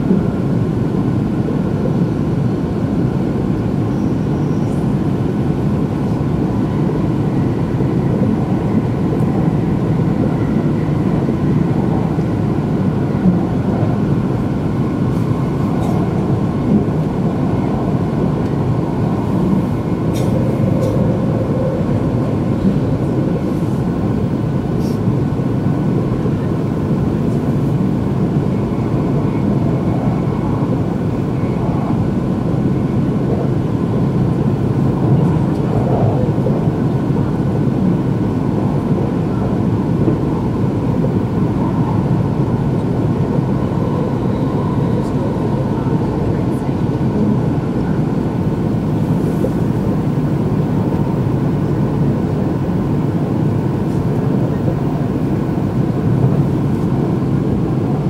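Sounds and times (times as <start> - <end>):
train rumbling at speed: 0.0 - 58.0.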